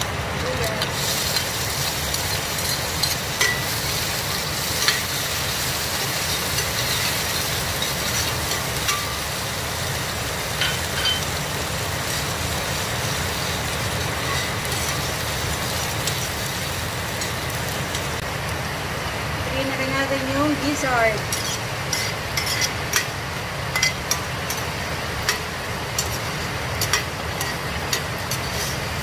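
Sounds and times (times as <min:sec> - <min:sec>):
garlic and onion sizzling in oil: 0:00.0 - 0:29.0.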